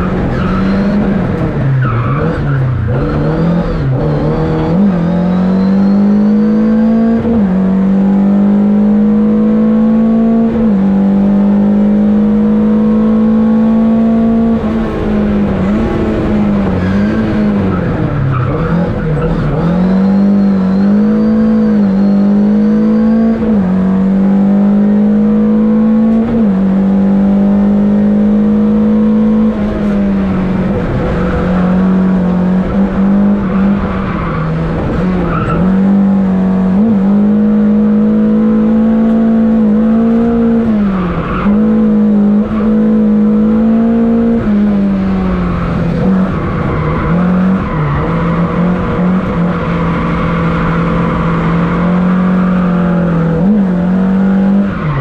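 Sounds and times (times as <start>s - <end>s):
rally car engine at high revs: 0.0s - 55.0s.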